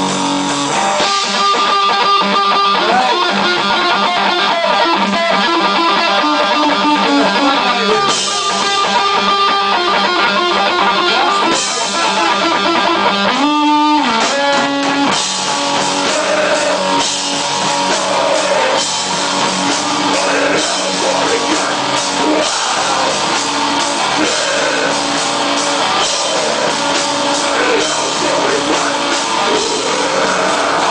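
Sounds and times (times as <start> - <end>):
rock music with guitar and drums: 0.0 - 30.9.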